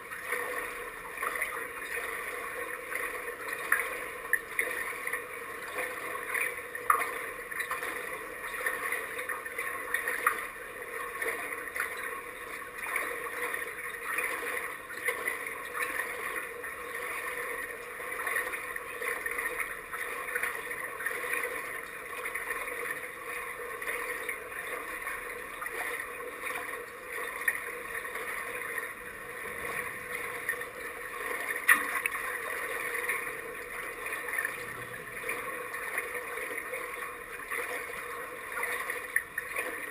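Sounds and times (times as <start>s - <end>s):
water lapping and sloshing: 0.0s - 39.9s.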